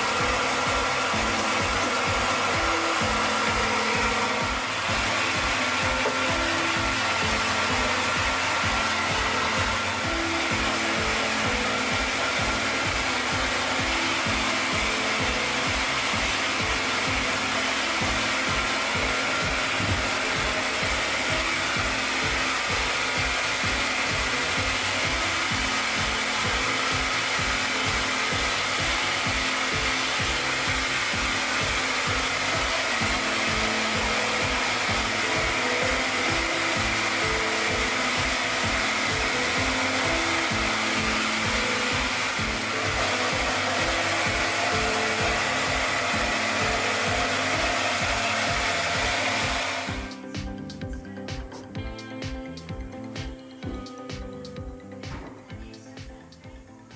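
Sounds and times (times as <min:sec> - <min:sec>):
hair dryer blowing: 0:00.0 - 0:56.1.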